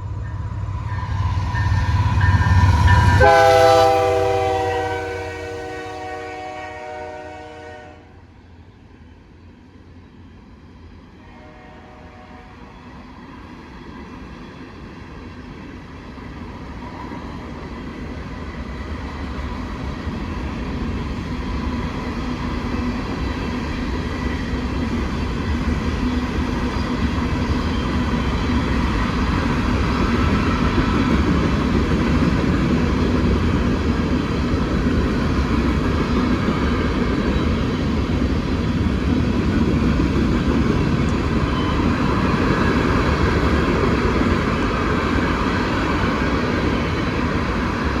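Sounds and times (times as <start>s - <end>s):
freight train rolling on rails: 0.0s - 48.0s.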